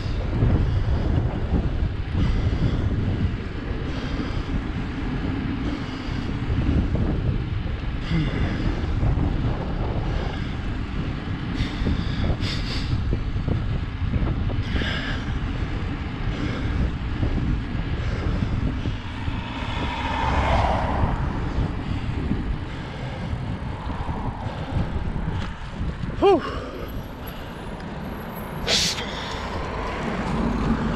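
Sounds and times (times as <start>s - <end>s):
wind rumbling on microphone: 0.0s - 30.9s.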